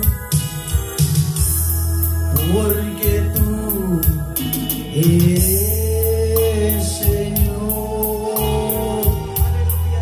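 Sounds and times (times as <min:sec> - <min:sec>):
low bass chord: 0:01.4 - 0:10.0
man singing: 0:01.7 - 0:10.0.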